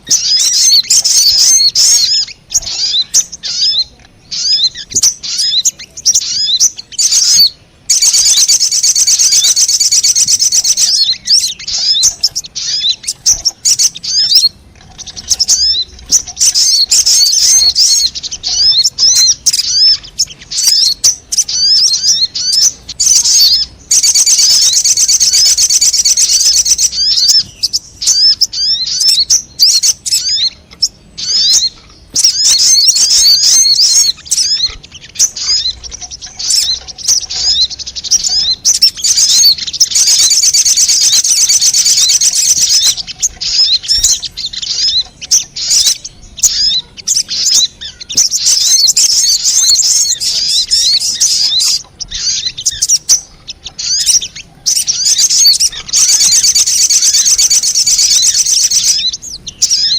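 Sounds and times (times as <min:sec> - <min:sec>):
bird chattering: 0:00.0 - 0:59.9
high sharp bird chips: 0:00.0 - 0:59.9.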